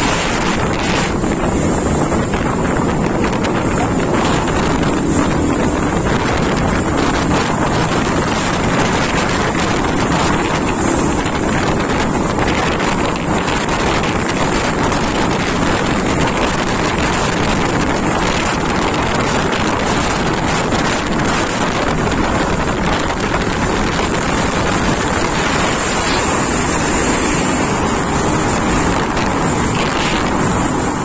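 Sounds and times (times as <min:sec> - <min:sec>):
road noise: 0:00.0 - 0:31.0
truck engines running: 0:00.0 - 0:31.0
wind rush: 0:00.0 - 0:31.0.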